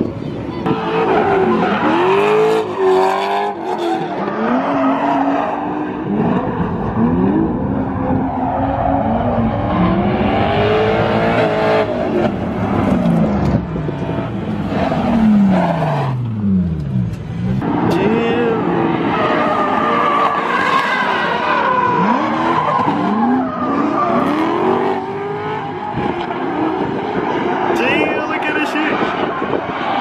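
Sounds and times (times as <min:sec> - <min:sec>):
car engines revving: 0:00.0 - 0:30.0
tyres skidding: 0:00.0 - 0:30.0.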